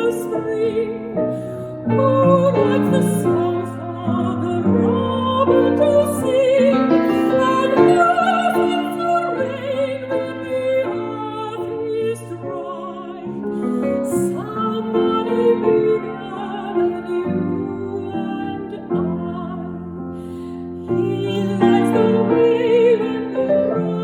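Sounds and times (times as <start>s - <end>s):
slow classical music: 0.0s - 24.0s.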